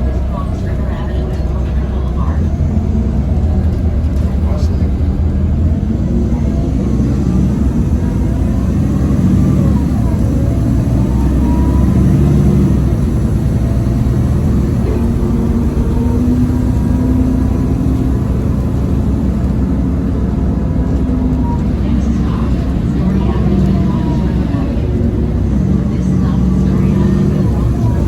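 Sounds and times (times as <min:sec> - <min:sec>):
bus diesel engine running: 0:00.0 - 0:28.0
turbocharger whine: 0:00.0 - 0:28.0.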